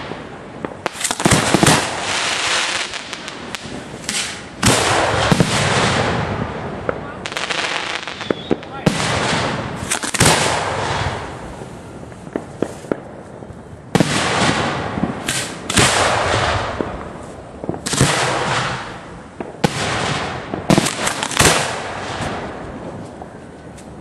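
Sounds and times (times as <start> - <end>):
firework blasts: 0.0 - 24.0
firework cracks and pops: 0.0 - 24.0.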